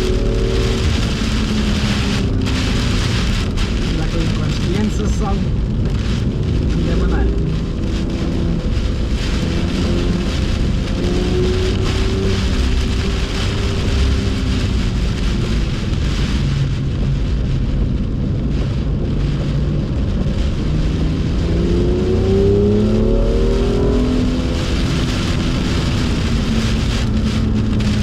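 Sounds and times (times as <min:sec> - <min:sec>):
car engine accelerating: 0:00.0 - 0:28.0
rain and tyre spray hiss: 0:00.0 - 0:28.0.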